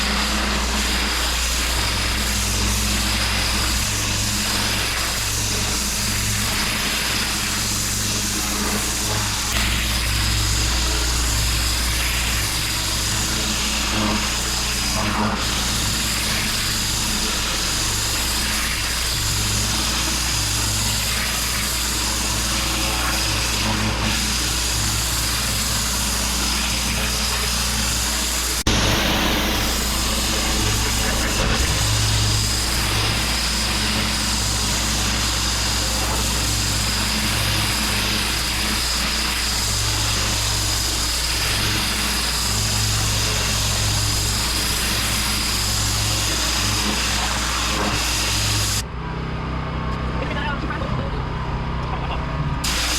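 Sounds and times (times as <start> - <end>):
water jet hissing on paving: 0.0 - 48.8, 52.6 - 52.9
pressure washer motor humming: 0.0 - 52.9
thin steady whine: 0.0 - 52.9.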